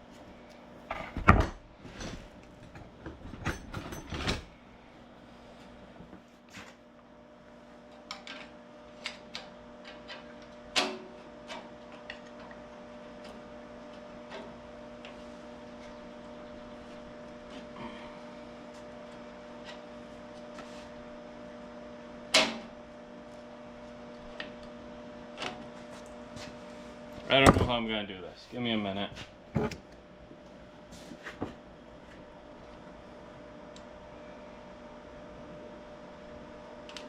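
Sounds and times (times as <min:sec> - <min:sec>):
steady hum: 0:00.0 - 0:37.0.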